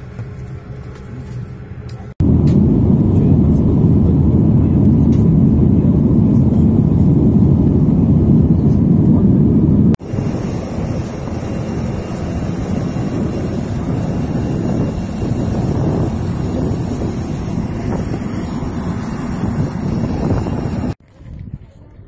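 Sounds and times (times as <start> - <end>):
jet airliner cabin roar: 0.0 - 21.0.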